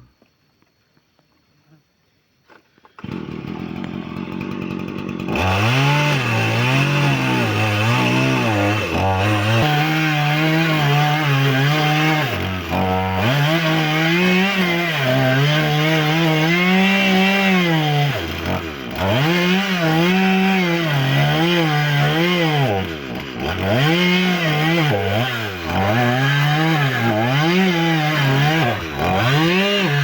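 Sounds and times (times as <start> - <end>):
chainsaw engine revving: 3.0 - 30.0.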